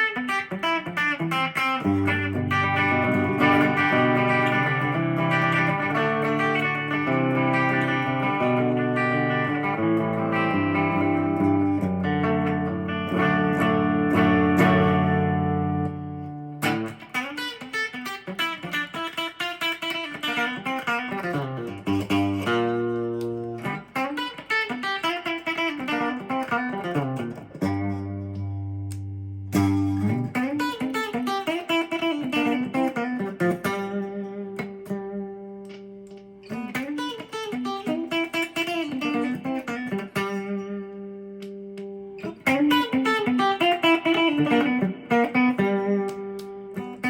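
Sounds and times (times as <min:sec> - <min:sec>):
electric guitar playing: 0:00.0 - 0:47.0.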